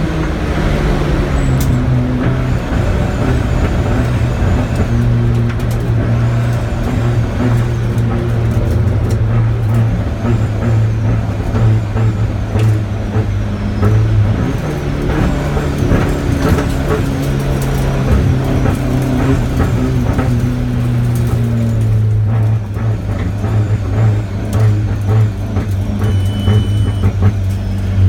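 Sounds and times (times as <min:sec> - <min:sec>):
car engine running: 0:00.0 - 0:28.0
rattles and clicks: 0:00.0 - 0:28.0.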